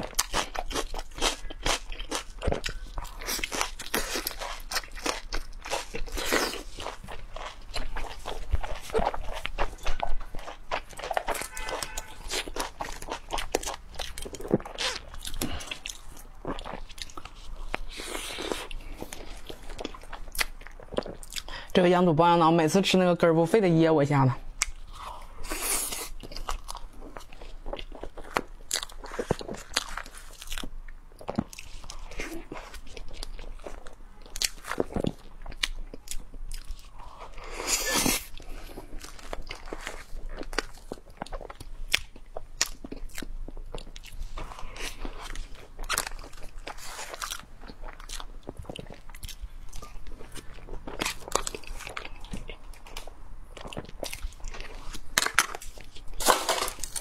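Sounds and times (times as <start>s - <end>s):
chewing and mouth noises: 0.0s - 21.7s, 24.5s - 57.0s.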